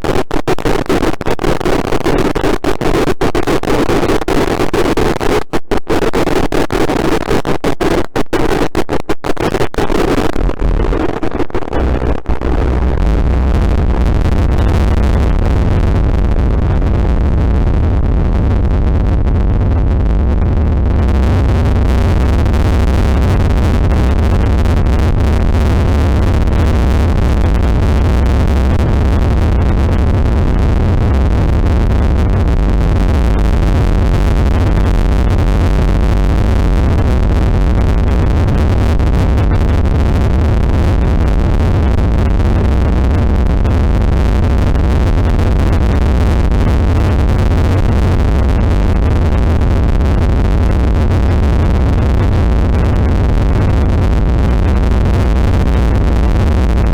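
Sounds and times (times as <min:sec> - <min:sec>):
synthesized noise drone: 0:08.5 - 0:56.9.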